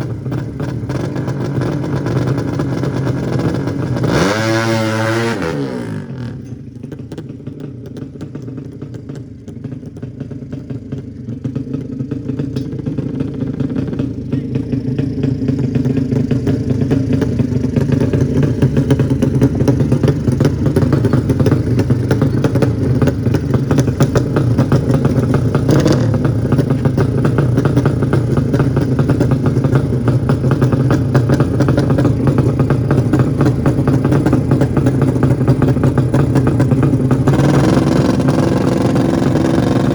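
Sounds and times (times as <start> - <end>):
motorcycle engine rattling: 0.0 - 39.9.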